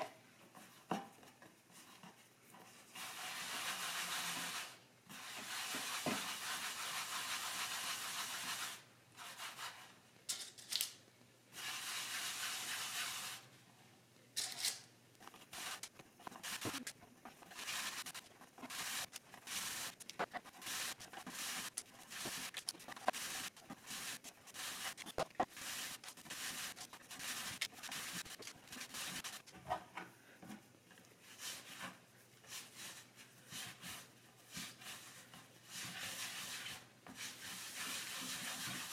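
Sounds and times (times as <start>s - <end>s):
rubbing and scraping strokes: 0.5s - 9.9s, 11.5s - 13.5s, 15.2s - 29.8s, 31.2s - 38.9s.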